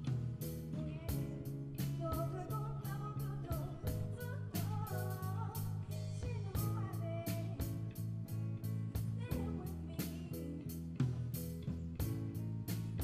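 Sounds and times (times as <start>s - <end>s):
bass guitar: 0.0s - 13.0s
electric guitar: 0.0s - 13.0s.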